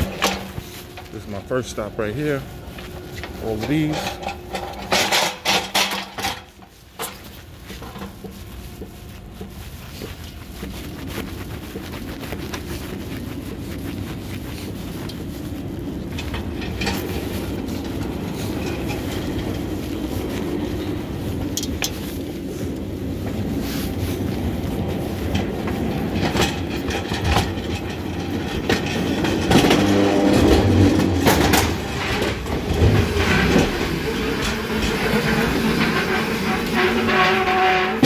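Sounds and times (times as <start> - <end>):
pallet jack wheels rattling: 0.0 - 8.7, 9.3 - 38.0.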